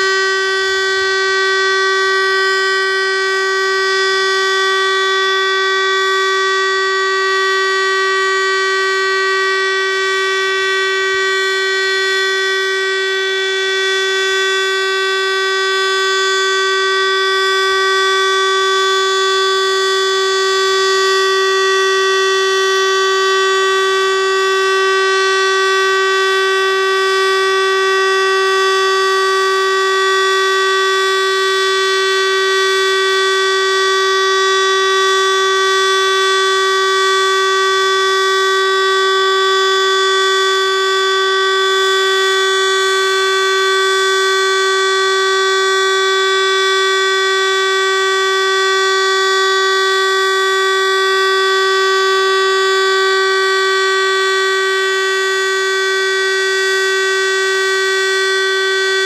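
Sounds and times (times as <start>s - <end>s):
siren steady tone: 0.0s - 59.0s.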